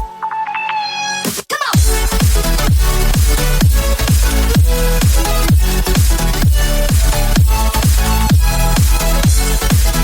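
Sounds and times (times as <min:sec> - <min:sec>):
electronic dance music: 0:00.0 - 0:10.0
steady kick drum beat: 0:01.8 - 0:10.0.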